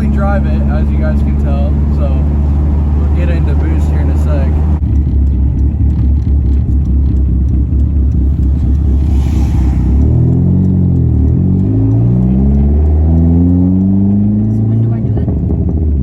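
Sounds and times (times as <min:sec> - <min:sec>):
engine revving under acceleration: 0:00.0 - 0:16.0.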